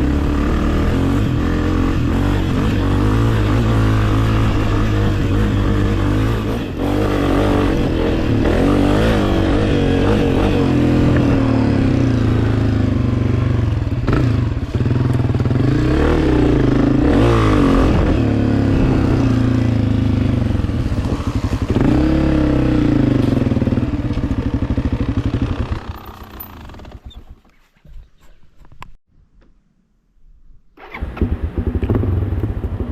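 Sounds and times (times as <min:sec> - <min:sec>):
dirt bike engine revving: 0:00.0 - 0:27.2.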